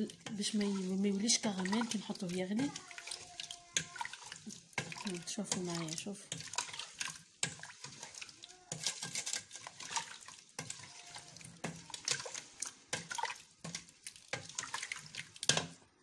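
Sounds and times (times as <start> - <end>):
stirring scrapes in metal pot: 0.0 - 15.8
grapes in syrup sloshing: 0.0 - 16.0.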